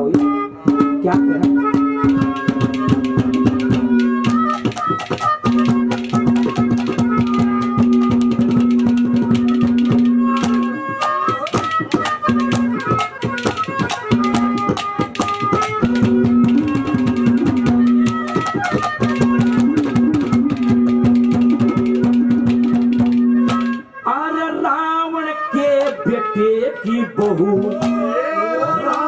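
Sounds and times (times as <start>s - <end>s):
fast hand drum strokes: 0.0s - 23.8s, 27.2s - 28.2s.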